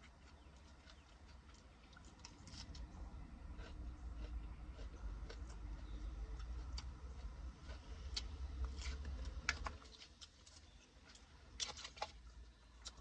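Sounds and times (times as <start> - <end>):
chewing crunchy greens: 0.0 - 13.0.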